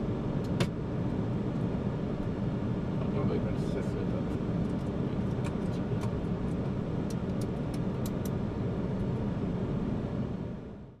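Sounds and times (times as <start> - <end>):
airliner cockpit low rumble: 0.0 - 11.0.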